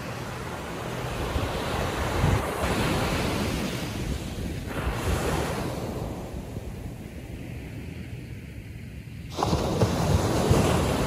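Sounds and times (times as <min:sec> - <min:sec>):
waves breaking on beach: 0:00.0 - 0:11.0
wind rumble on microphone: 0:00.0 - 0:11.0.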